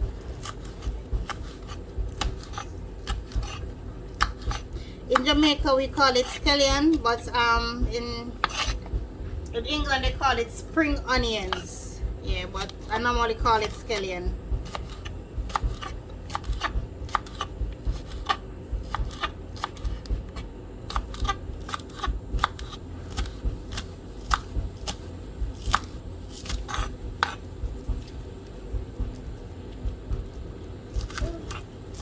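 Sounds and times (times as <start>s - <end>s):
knife cutting spring onions: 0.2s - 8.9s, 12.4s - 28.2s, 29.1s - 32.0s.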